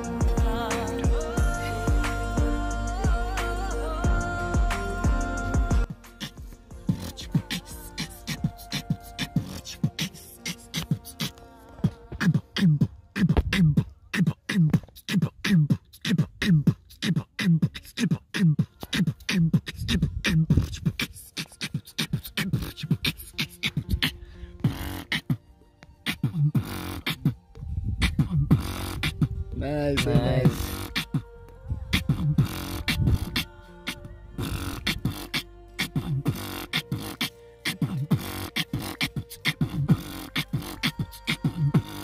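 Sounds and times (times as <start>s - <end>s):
beatboxing: 0.0s - 25.4s, 26.0s - 42.0s.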